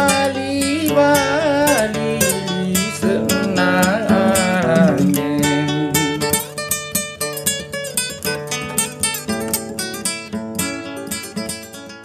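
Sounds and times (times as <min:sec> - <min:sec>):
plucked lute notes: 0:00.0 - 0:12.0.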